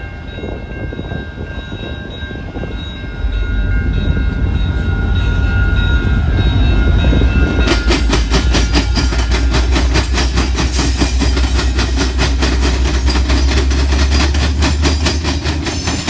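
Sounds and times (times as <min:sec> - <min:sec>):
locomotive horn chime: 0:00.0 - 0:14.0
diesel locomotive engine rumble: 0:00.0 - 0:16.0.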